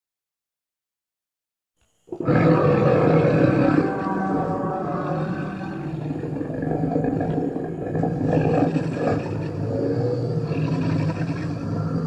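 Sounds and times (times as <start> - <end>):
low monster roar: 2.1 - 12.0.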